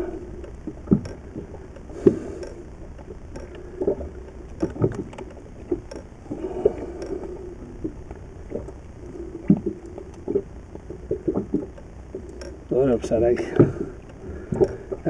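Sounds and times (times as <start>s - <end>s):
low rumble of wind: 0.0s - 15.0s
water rumbling: 0.0s - 15.0s.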